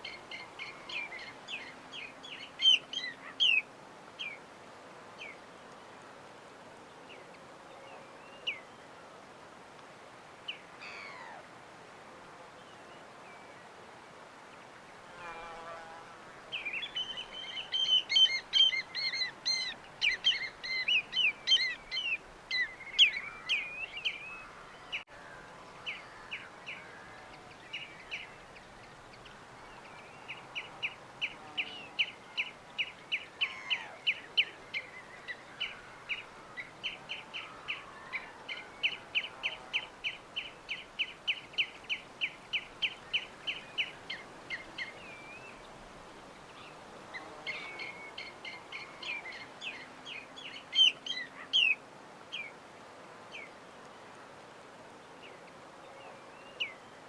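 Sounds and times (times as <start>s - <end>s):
faint steady hiss: 0.0s - 57.0s
songbirds chirping: 0.0s - 57.0s.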